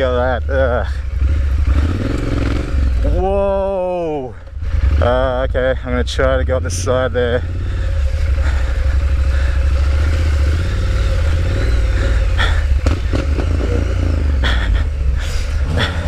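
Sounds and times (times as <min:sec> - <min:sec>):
motorcycle engine under throttle: 0:00.0 - 0:03.3, 0:04.5 - 0:16.0.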